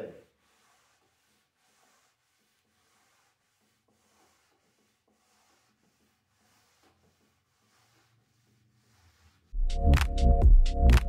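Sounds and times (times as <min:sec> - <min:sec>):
scouring pad scrubbing wood: 0:00.2 - 0:09.6.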